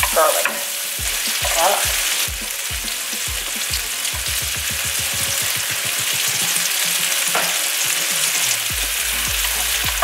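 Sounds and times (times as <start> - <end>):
frying in oil with crackling pops: 0.0 - 10.0.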